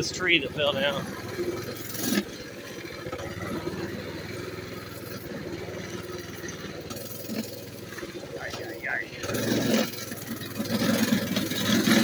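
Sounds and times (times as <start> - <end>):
small bike engine running: 0.0 - 12.0.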